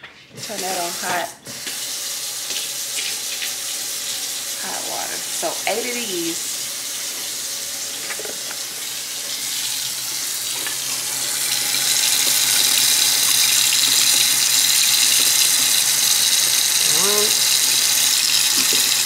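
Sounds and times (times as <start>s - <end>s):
tap water running: 0.0s - 19.0s.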